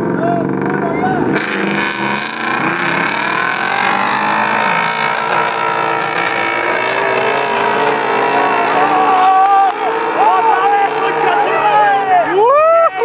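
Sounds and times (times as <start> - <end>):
off-road trucks revving hard: 0.0 - 13.0.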